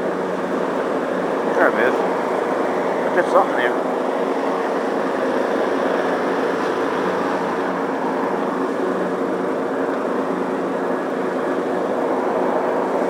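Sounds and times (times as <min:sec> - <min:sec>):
lawn mower engine running: 0:00.0 - 0:11.1.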